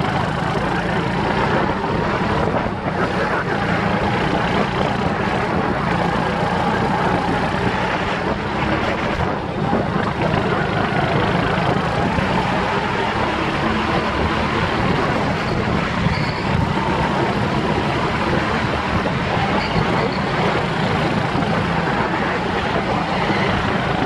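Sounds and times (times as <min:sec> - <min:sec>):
go-kart engine running hard: 0:00.0 - 0:24.0.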